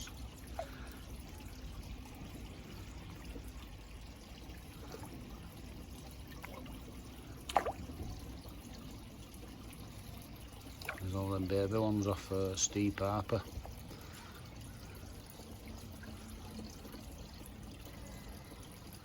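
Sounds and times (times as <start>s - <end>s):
water trickling into pond: 0.0s - 19.0s.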